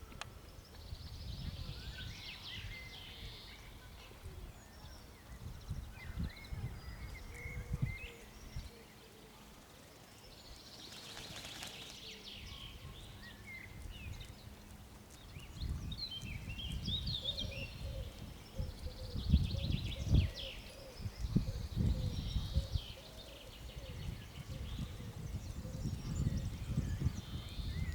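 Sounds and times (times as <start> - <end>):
wind rumble on microphone: 0.0 - 8.8, 12.2 - 27.9
songbirds chirping and trilling: 0.0 - 27.9.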